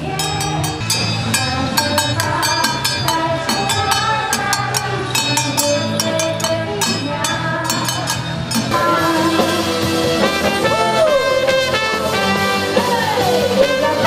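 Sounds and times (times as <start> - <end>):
festive music: 0.0 - 14.0.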